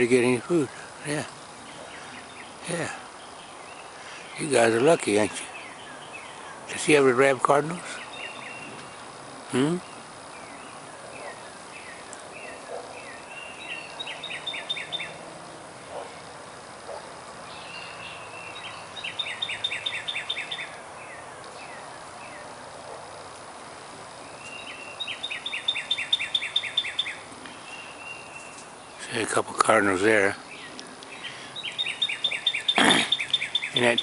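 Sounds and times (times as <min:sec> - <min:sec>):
songbird singing: 0:00.0 - 0:34.0.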